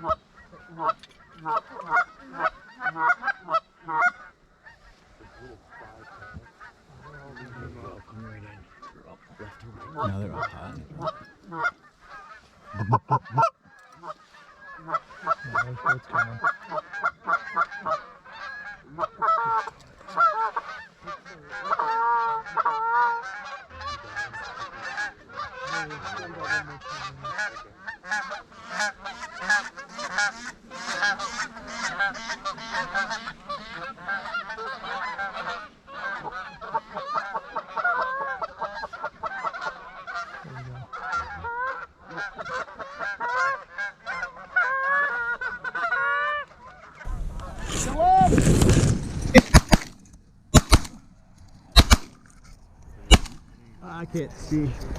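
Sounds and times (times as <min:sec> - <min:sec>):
geese honking: 0:00.0 - 0:54.9.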